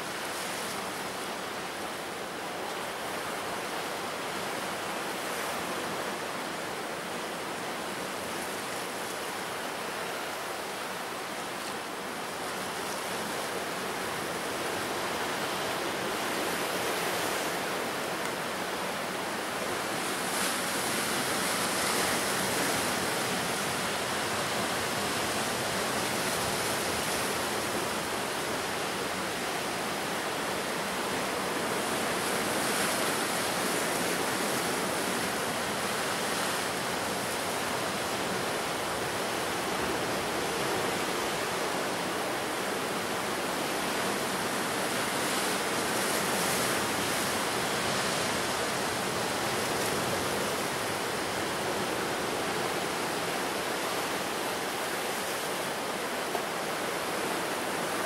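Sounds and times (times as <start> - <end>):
ocean surf washing ashore: 0.0 - 58.0.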